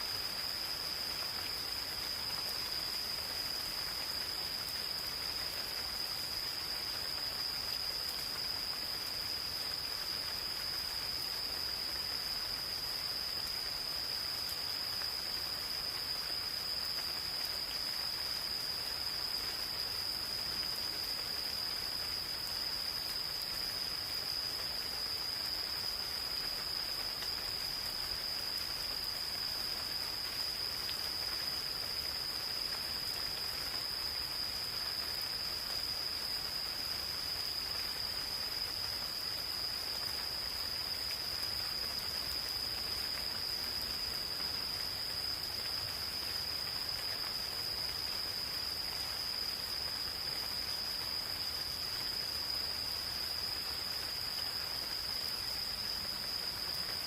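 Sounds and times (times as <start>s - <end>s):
gentle rain falling: 0.0s - 57.0s
insects trilling: 0.0s - 57.0s.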